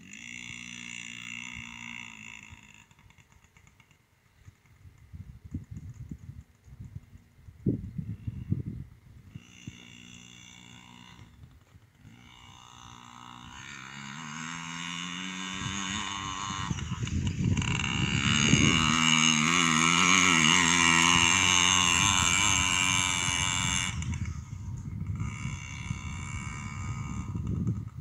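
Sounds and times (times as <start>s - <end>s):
dirt bike engine revving: 0.0s - 4.6s, 9.2s - 28.0s.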